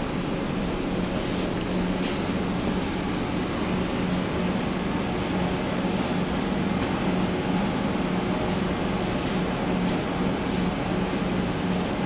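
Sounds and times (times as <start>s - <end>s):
train equipment hum and ventilation: 0.0s - 12.0s.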